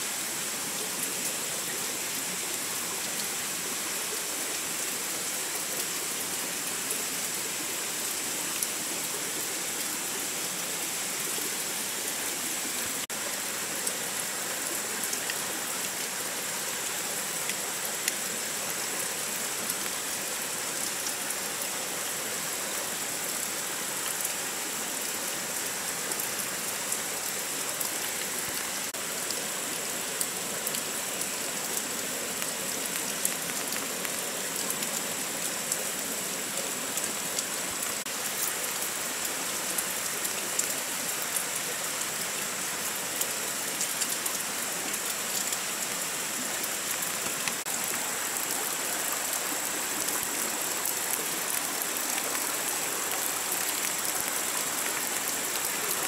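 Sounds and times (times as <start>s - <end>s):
rain on a tarp: 0.0s - 56.0s.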